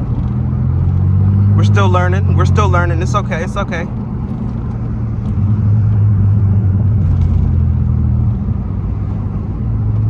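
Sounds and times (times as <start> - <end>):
car exhaust drone: 0.0 - 10.0.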